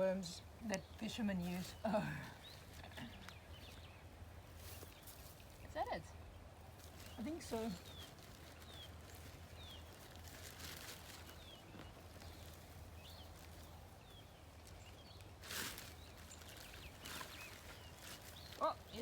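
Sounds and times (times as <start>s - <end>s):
rustling of handled soil: 0.7s - 6.0s, 6.6s - 19.0s
small bird chirping: 0.7s - 19.0s.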